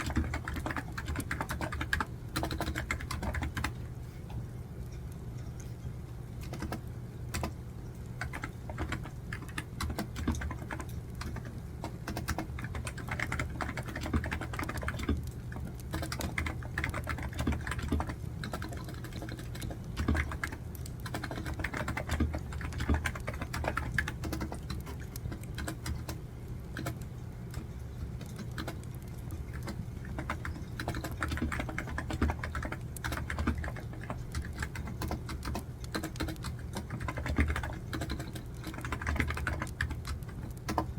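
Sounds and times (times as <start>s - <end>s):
typing on computer keyboard: 0.0s - 3.8s, 6.4s - 40.9s.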